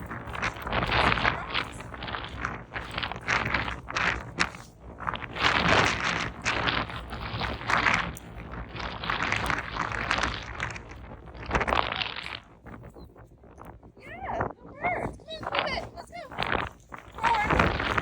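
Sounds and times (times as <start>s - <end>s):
footsteps on a trail: 0.0s - 14.4s, 15.0s - 18.0s
wind rumbling on microphone: 0.0s - 18.0s.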